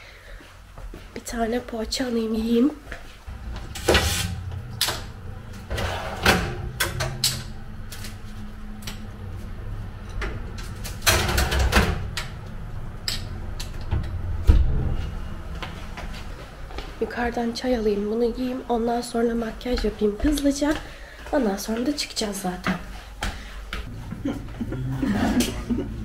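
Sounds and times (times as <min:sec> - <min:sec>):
low steady hum: 0:00.0 - 0:21.2, 0:23.6 - 0:26.0.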